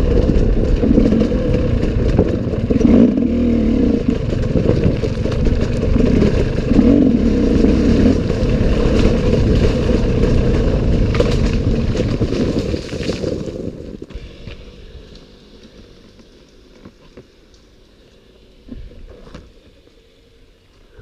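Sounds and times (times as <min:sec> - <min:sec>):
motor vehicle rumble: 0:00.0 - 0:21.0.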